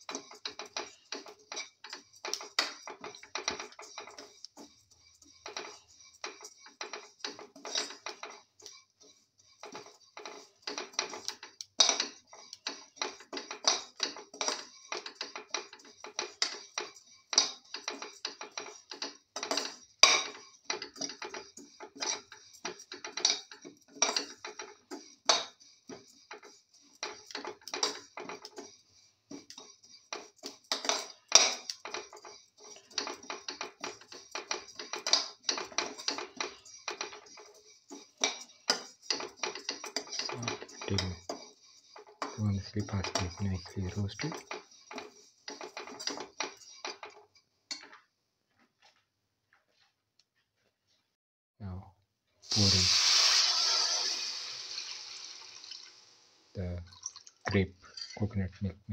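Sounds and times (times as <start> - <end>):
metal spatula scraping metal pan: 0.0 - 47.9, 52.5 - 55.9.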